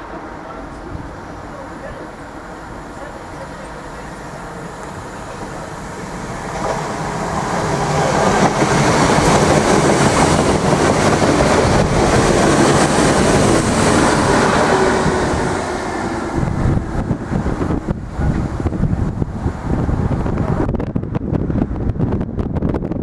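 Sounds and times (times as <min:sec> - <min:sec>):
electric train passing: 0:00.0 - 0:22.9.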